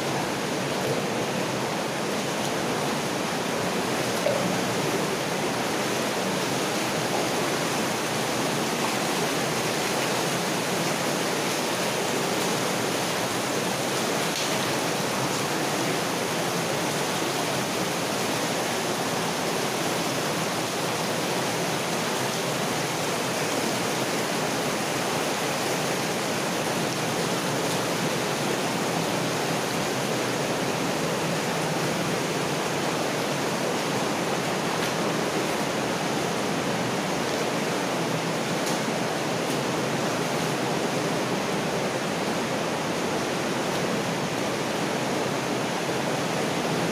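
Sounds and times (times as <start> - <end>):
water rushing through culvert: 0.0 - 46.9.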